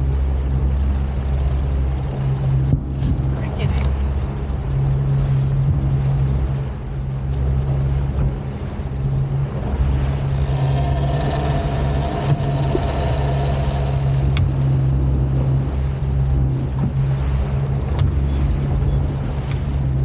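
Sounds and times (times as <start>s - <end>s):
outboard motor droning: 0.0s - 20.0s
wake and wind rushing: 0.0s - 20.0s.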